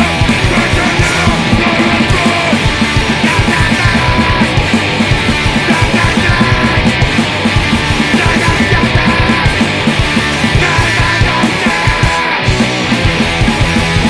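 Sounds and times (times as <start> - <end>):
fast punk rock song: 0.0 - 14.0.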